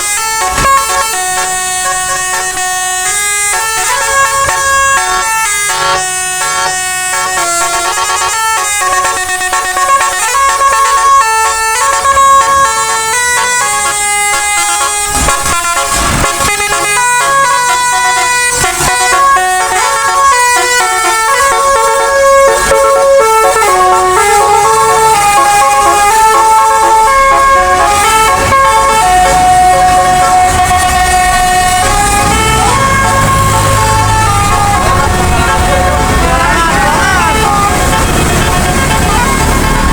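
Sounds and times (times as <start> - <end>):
musical air horn playing tune: 0.0 - 39.9.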